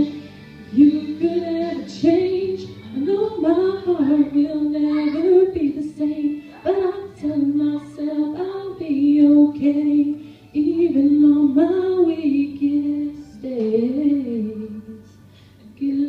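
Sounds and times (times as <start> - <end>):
woman singing slow song: 0.0 - 16.0.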